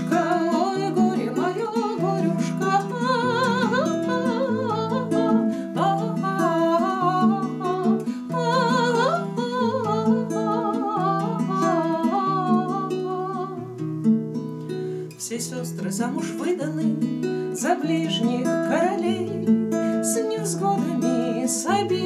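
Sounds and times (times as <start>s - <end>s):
woman singing with vibrato: 0.0s - 13.7s, 15.2s - 22.0s
classical guitar: 0.0s - 22.0s.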